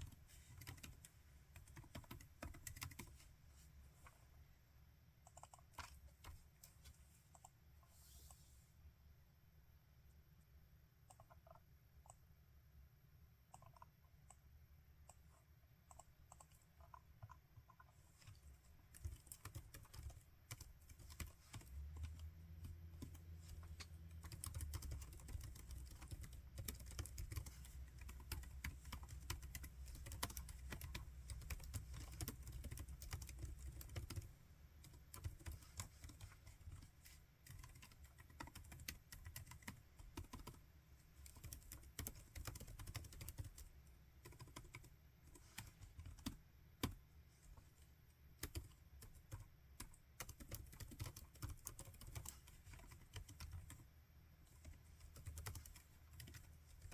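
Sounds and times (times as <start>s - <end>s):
laptop keyboard typing: 0.0s - 3.2s, 5.2s - 6.5s, 11.0s - 12.2s, 13.5s - 47.0s, 48.4s - 56.9s.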